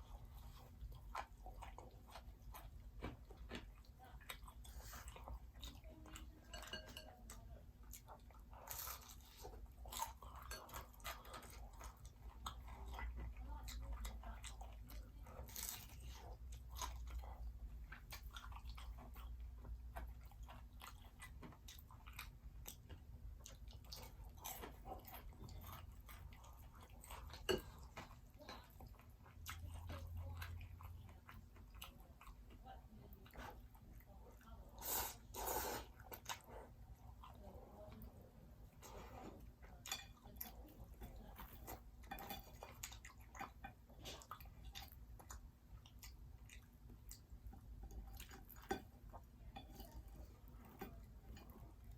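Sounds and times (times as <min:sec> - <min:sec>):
chewing crunchy fried food: 0:00.0 - 0:51.9.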